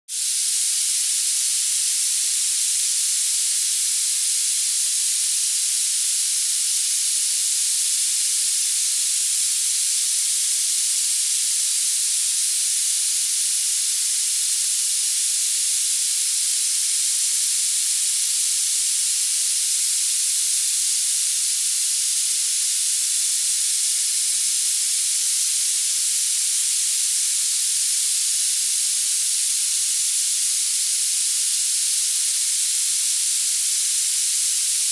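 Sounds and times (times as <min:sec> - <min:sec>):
high-pitched masking noise hiss: 0:00.1 - 0:34.9.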